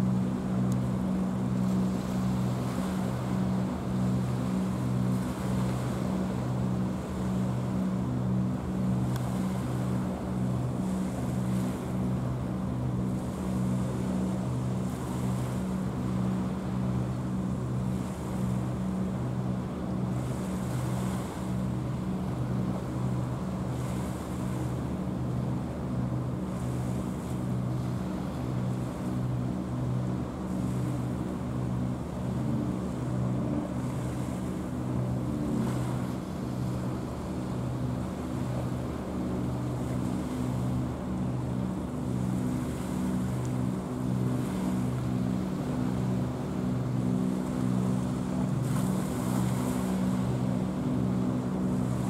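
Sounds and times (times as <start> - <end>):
ship diesel engine throbbing: 0.0 - 52.0
wind: 0.0 - 52.0.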